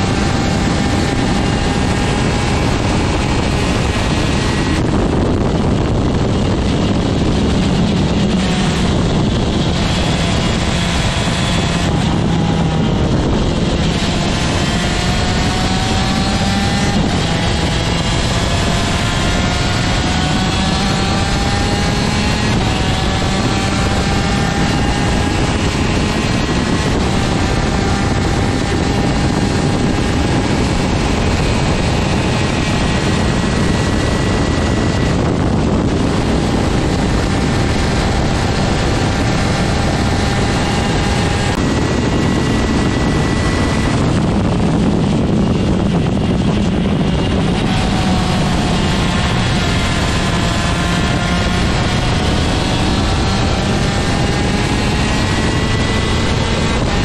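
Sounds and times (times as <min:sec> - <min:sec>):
two-stroke kart engine revving: 0:00.0 - 0:57.0.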